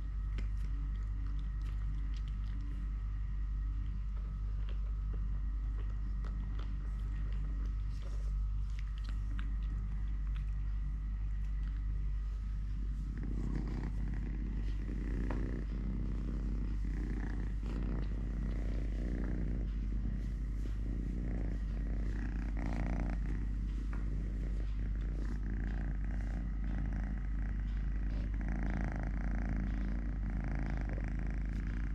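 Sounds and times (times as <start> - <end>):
kitten purring: 0.0 - 31.9.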